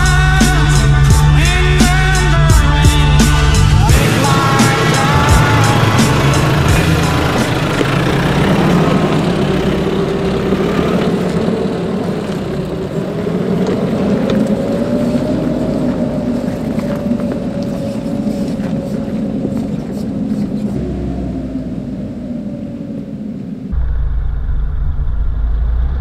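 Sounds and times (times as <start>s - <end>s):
truck engine driving: 0.0s - 26.0s.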